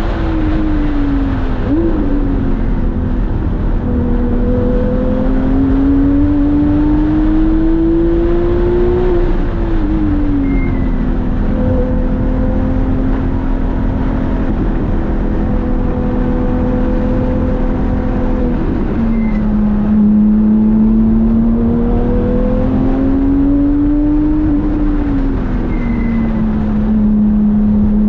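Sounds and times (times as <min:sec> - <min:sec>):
car engine accelerating: 0:00.0 - 0:28.0
road and wind noise: 0:00.0 - 0:28.0.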